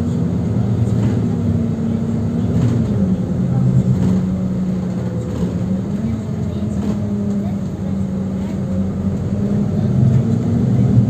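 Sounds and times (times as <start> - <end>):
bus drive hum: 0.0 - 11.0.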